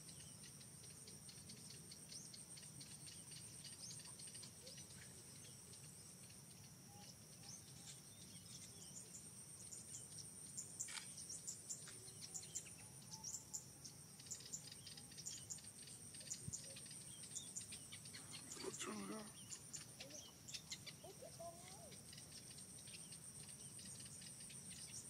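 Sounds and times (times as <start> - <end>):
high insect trill: 0.0 - 25.0.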